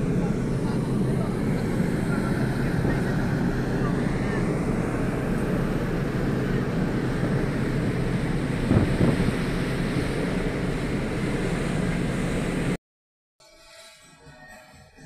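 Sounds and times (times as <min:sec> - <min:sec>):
ferry rumbling: 0:00.0 - 0:12.7
wind rushing over microphone: 0:00.0 - 0:12.7.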